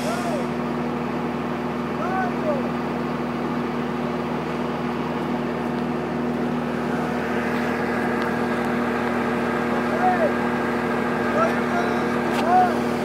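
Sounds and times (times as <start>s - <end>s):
heavy machinery engine droning: 0.0s - 13.0s.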